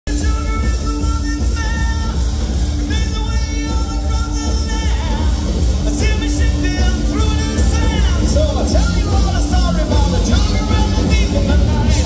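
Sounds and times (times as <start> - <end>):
bass guitar: 0.0 - 12.0
drums: 0.0 - 12.0
electric guitars: 0.1 - 12.0.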